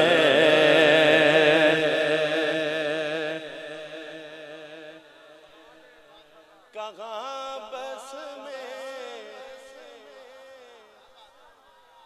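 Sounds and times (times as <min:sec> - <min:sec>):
man singing through microphone: 0:00.0 - 0:05.9, 0:06.6 - 0:11.9.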